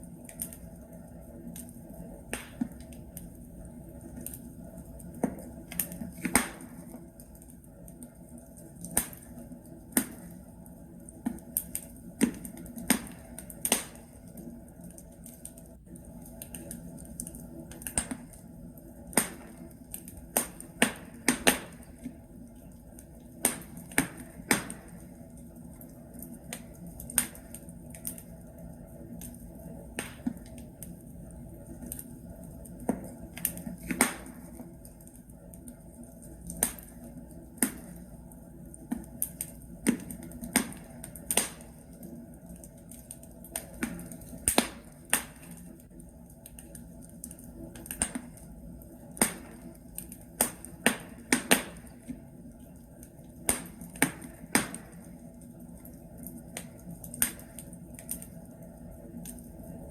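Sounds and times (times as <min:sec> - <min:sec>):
logs crackling in a fireplace: 0:00.0 - 0:59.9.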